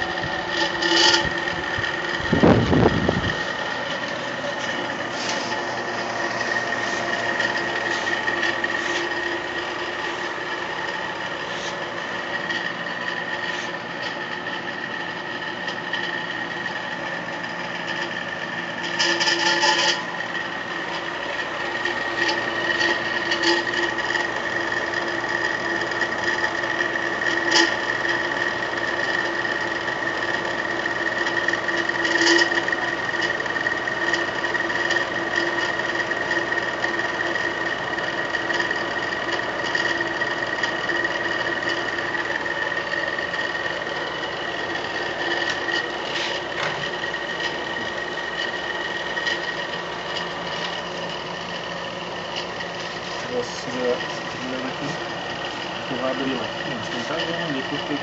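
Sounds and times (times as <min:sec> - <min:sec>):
air conditioner whine: 0:00.0 - 0:58.0
scraping rattle: 0:00.0 - 0:58.0.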